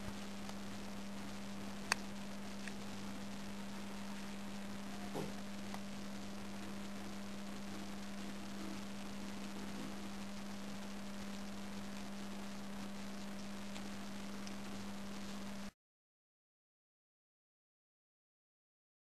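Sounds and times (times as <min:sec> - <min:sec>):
constant hiss: 0:00.0 - 0:15.7
steady low hum: 0:00.0 - 0:15.7.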